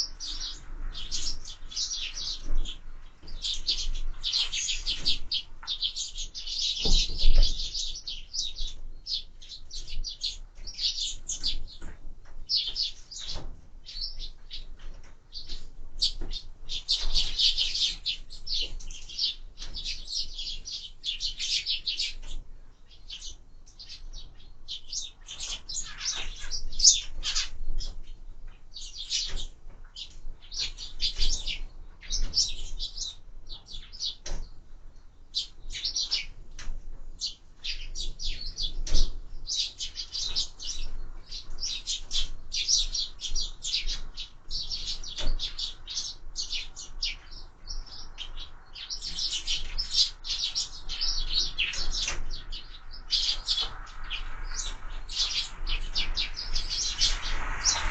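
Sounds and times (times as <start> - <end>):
sparrows chirping: 0.0 - 57.9.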